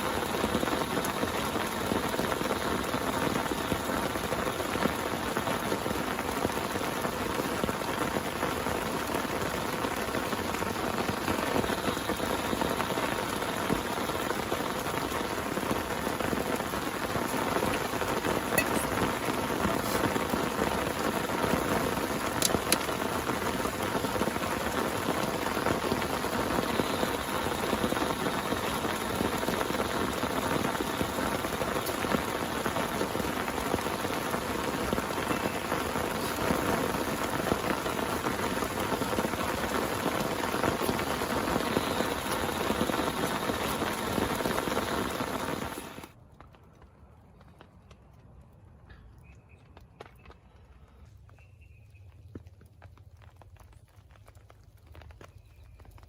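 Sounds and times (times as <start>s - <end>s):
heavy rain pouring: 0.0s - 46.1s.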